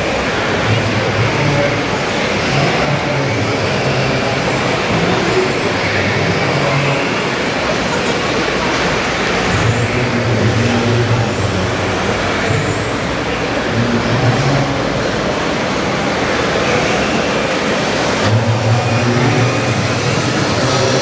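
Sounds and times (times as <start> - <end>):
noisy background: 0.0 - 21.0
simulated diesel engine hum: 0.0 - 21.0.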